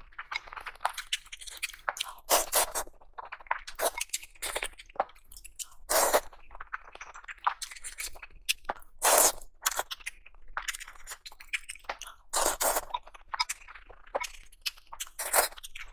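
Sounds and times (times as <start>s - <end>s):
crunching bites and chewing: 0.1s - 15.9s.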